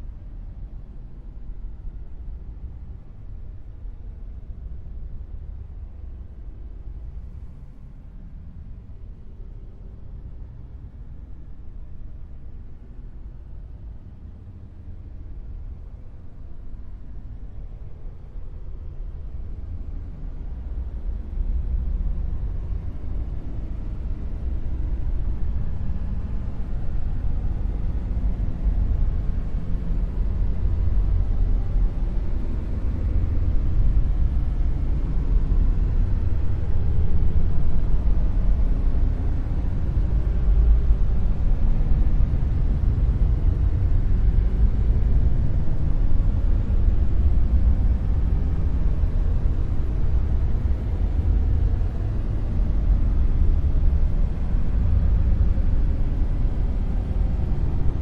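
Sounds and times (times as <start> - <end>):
deep low rumble noise: 0.0 - 58.0.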